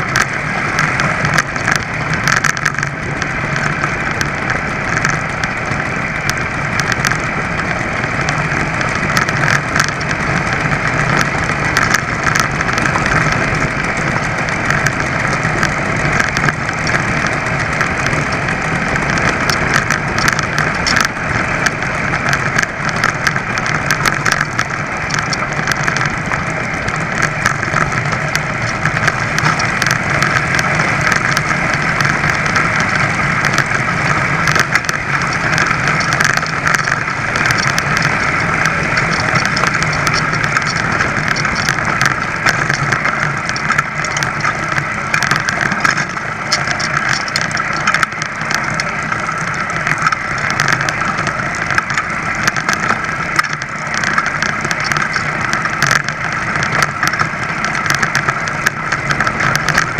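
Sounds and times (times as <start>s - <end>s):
moped engine running: 0.0s - 59.9s.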